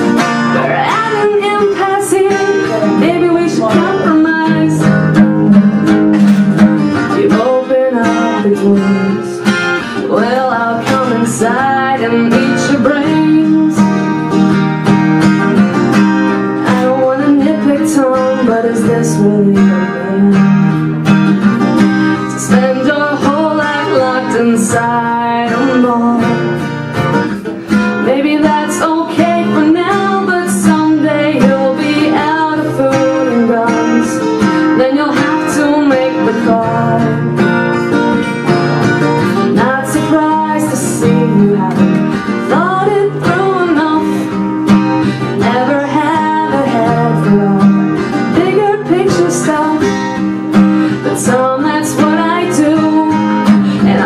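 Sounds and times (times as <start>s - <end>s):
strummed acoustic guitar: 0.0s - 54.0s
woman singing: 0.2s - 26.8s, 27.9s - 38.0s, 39.2s - 54.0s.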